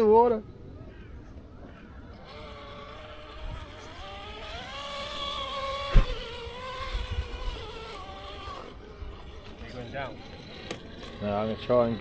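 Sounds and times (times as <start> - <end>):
electric motor and gears whining: 2.0 - 12.0.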